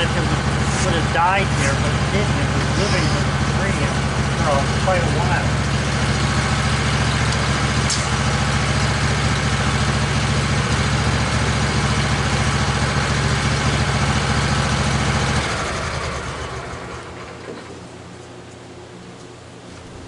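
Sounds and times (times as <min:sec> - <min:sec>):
sawmill engine idling: 0:00.0 - 0:20.0.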